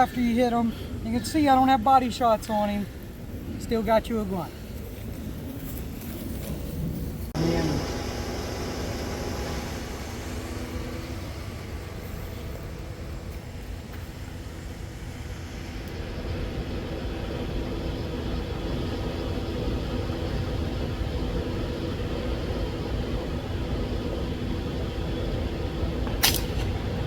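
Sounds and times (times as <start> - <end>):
vehicle engine running: 4.6 - 27.0.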